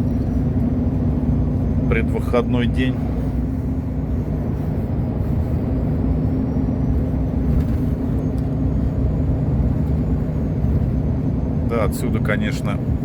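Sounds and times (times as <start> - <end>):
truck engine drone in cab: 0.0 - 13.0.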